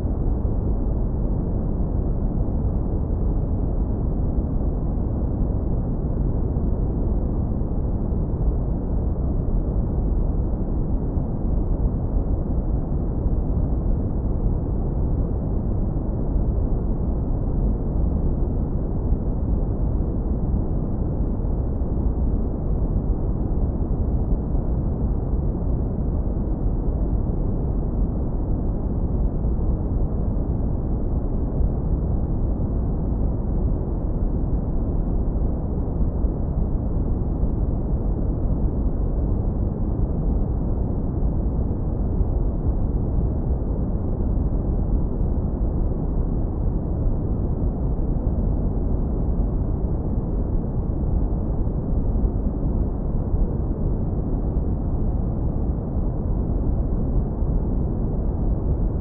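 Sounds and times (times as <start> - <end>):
deep brown noise rumble: 0.0 - 59.0.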